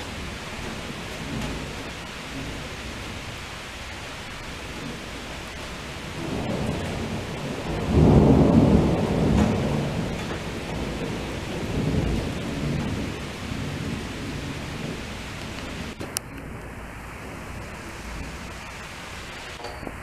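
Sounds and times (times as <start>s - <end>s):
steady rain: 0.0s - 20.0s
thunder rumbling: 0.0s - 20.0s.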